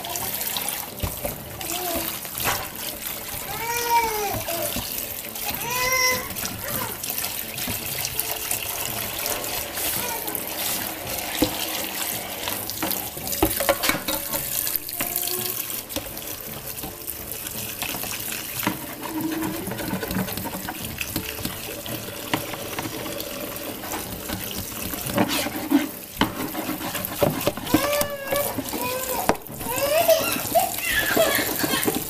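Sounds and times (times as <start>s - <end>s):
faucet running into steel sink: 0.0s - 32.0s
pan clattering against sink: 0.0s - 32.0s
sponge scrubbing frying pan: 0.0s - 32.0s.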